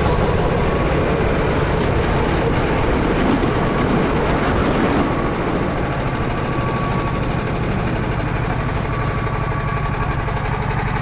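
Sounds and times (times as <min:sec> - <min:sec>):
kart engine idling: 0:00.0 - 0:11.0.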